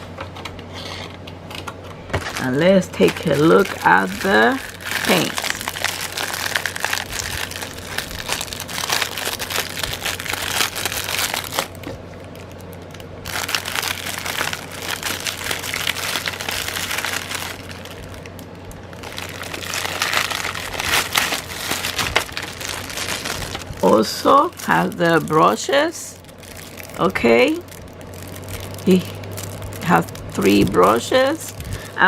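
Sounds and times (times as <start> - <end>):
plastic packaging crinkling: 1.4 - 32.0.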